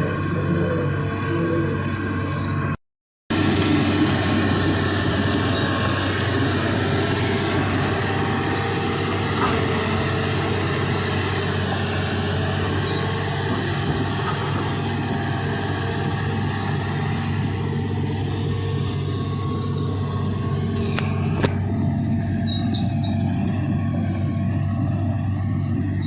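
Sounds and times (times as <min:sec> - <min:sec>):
excavator diesel engine droning: 0:00.0 - 0:26.0.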